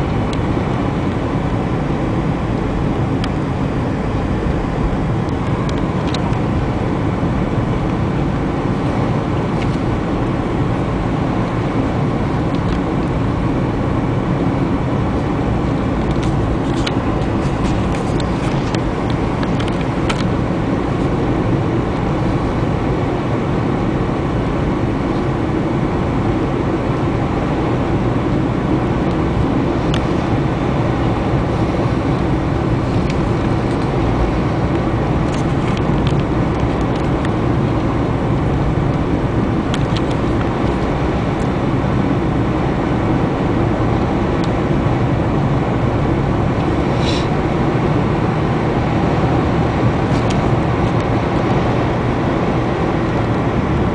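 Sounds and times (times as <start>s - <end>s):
low engine hum: 0.0s - 53.9s
tyres running on asphalt: 0.0s - 53.9s.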